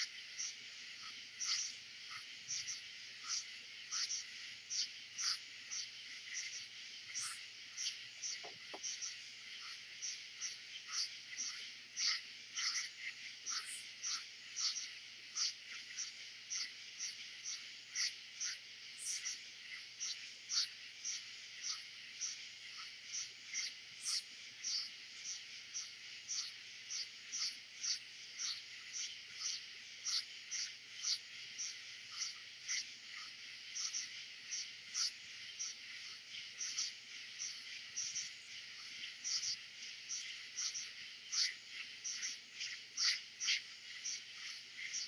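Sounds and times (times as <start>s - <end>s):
insects and frogs night chorus: 0.0s - 45.0s.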